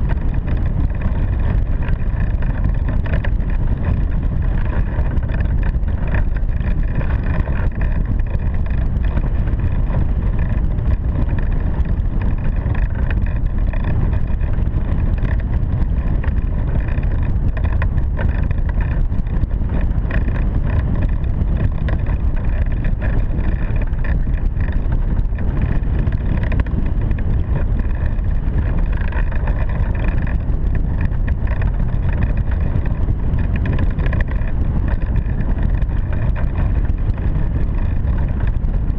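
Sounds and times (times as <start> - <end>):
wind rushing across microphone: 0.0 - 38.9.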